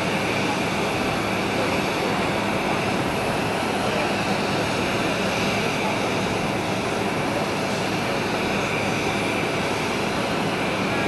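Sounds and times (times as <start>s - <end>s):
jet aircraft engine whine: 0.0s - 11.0s.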